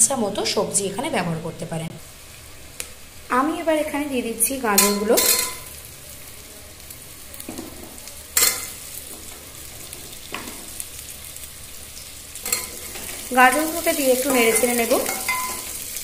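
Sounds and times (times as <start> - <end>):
vegetables sizzling in butter: 0.0 - 16.0.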